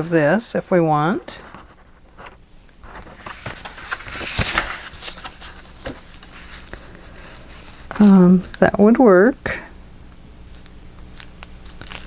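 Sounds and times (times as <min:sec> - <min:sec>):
paper sheets rustling: 0:00.0 - 0:09.8, 0:10.4 - 0:12.0.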